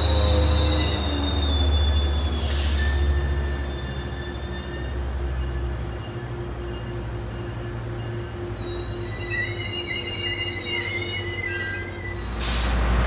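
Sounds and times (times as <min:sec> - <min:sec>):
high metallic wheel squeal: 0:00.0 - 0:06.9, 0:08.0 - 0:12.7
train low rumble: 0:00.0 - 0:13.0.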